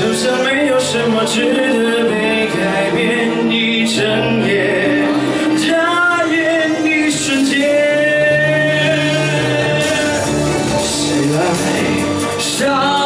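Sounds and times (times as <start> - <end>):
instrumental accompaniment: 0.0 - 13.0
man singing pop song: 0.0 - 13.0.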